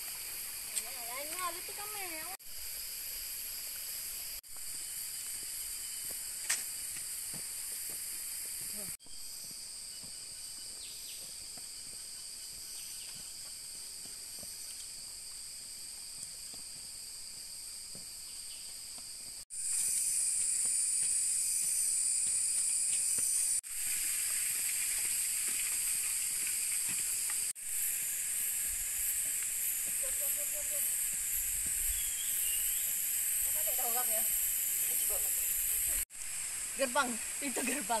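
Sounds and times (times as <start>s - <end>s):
insect chorus buzzing: 0.0s - 38.0s.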